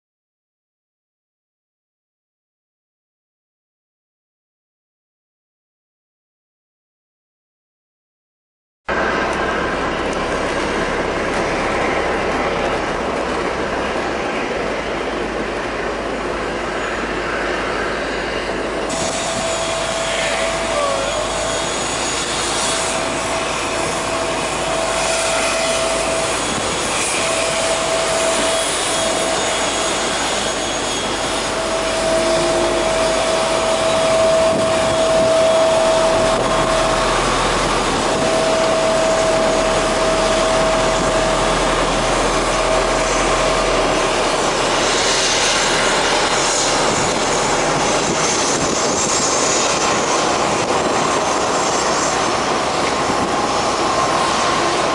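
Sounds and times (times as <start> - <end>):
deep hum: 8.9 - 30.3, 30.9 - 54.9
mid-pitched whine: 8.9 - 54.9.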